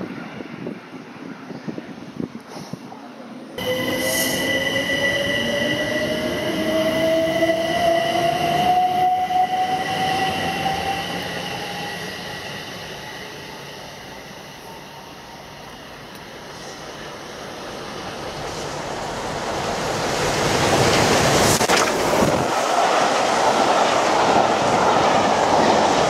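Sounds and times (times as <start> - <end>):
train rolling noise: 3.6 - 26.0.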